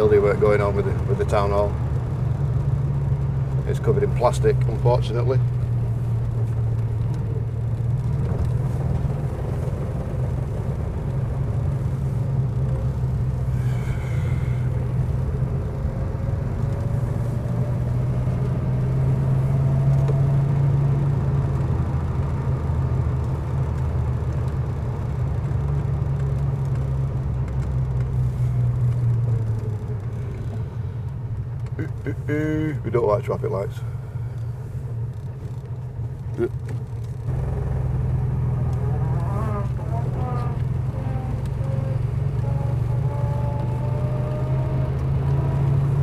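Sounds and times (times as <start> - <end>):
car engine low rumble: 0.0 - 46.0.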